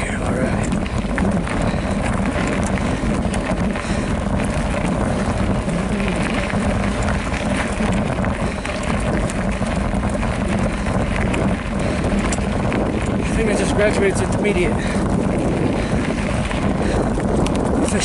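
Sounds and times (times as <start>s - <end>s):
bike clicks and rattles: 0.0s - 18.0s
tyres crunching over gravel: 0.0s - 18.0s
wind rushing over microphone: 0.0s - 18.0s.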